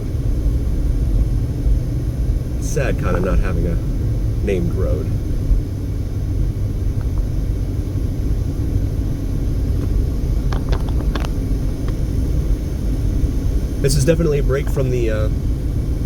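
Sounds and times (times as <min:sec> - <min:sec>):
car interior road and engine noise: 0:00.0 - 0:16.0.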